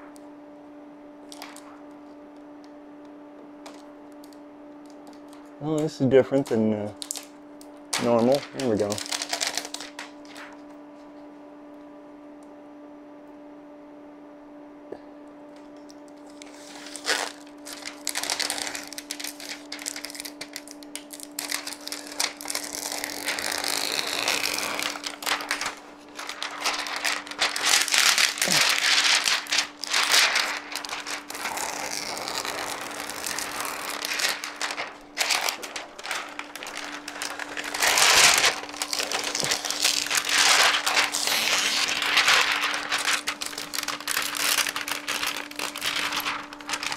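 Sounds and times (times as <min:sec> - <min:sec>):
plastic film crinkling as peeled: 0:01.2 - 0:01.8, 0:03.6 - 0:07.3, 0:07.9 - 0:10.7, 0:16.1 - 0:46.9.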